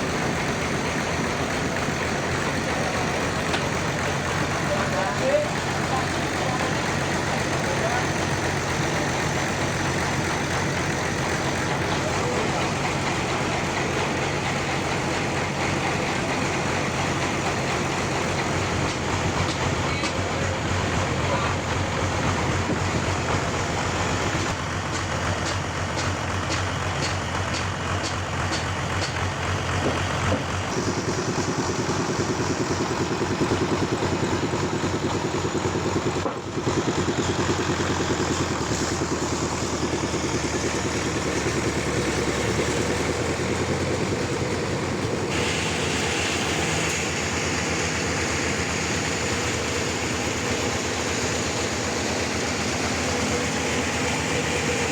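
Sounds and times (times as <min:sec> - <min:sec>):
sawmill machine drone: 0:00.0 - 0:54.9.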